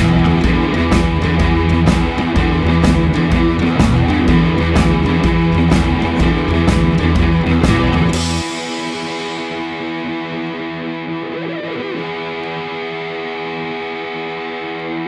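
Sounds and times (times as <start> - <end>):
sustained distorted guitar chord: 0.0 - 15.0.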